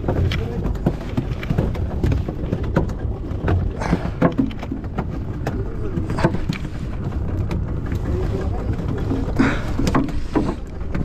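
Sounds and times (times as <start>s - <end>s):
boat engine rumble: 0.0s - 11.0s
knocks and clicks on board: 0.0s - 11.0s.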